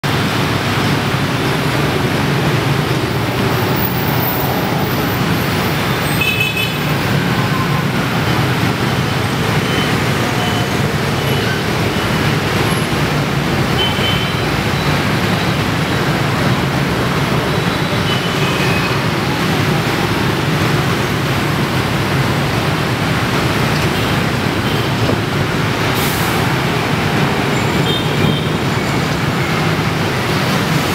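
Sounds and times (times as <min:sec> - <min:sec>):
bus passing: 0:00.0 - 0:30.9
scooter engines droning: 0:00.0 - 0:30.9.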